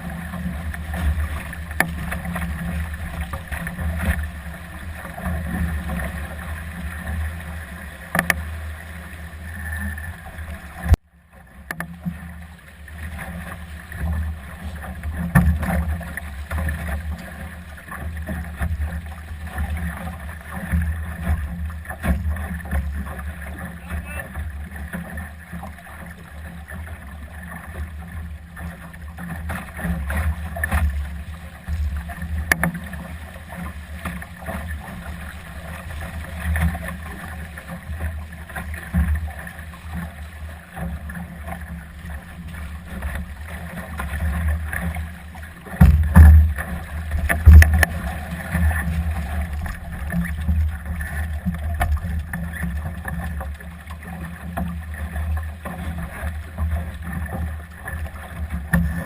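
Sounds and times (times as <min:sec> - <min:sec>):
small clicks from boat: 0:00.0 - 0:59.0.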